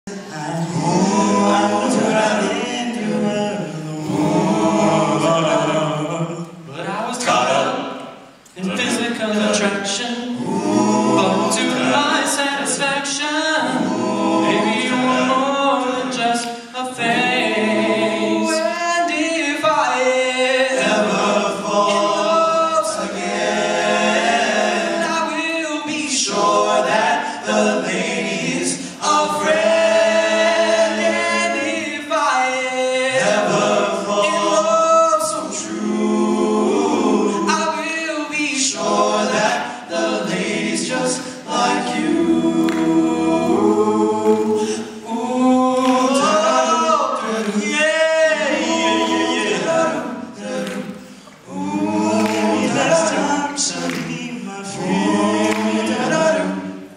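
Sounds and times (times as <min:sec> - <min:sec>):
male vocal group singing harmony: 0:00.1 - 0:56.9.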